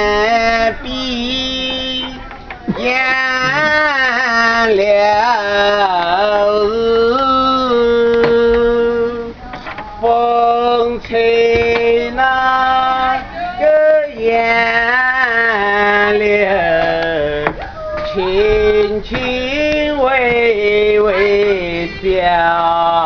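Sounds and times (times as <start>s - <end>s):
person singing unaccompanied: 0.0s - 23.0s.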